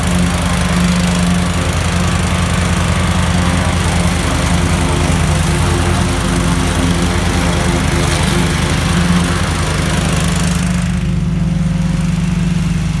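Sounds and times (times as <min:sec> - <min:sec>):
ride-on mower engine hum: 0:00.0 - 0:13.0.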